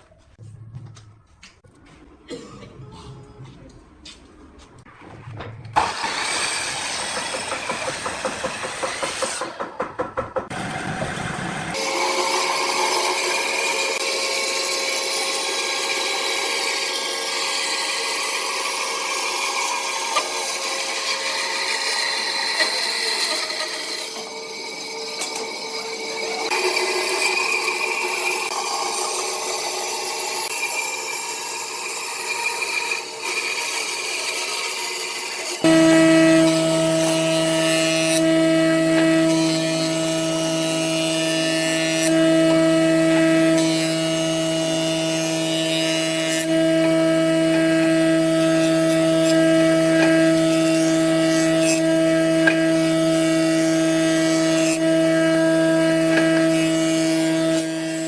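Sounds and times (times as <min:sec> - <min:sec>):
power tools cutting wood: 0:05.7 - 0:58.0.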